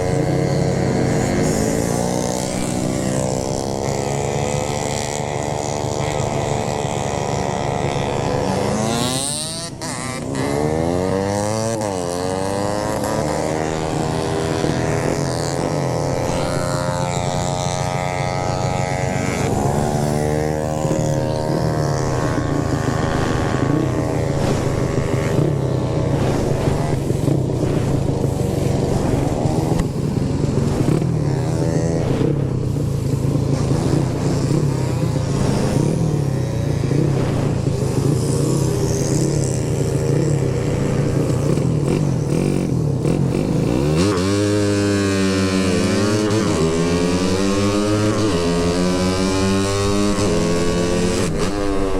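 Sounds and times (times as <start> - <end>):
motorcycle engine running: 0.0 - 51.9
road and wind noise: 0.0 - 51.9.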